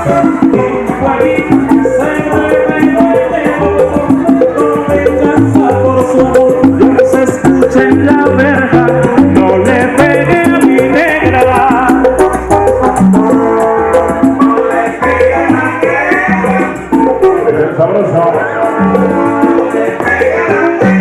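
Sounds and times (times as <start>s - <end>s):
bouncing bass line: 0.0s - 21.0s
melody instruments: 0.0s - 21.0s.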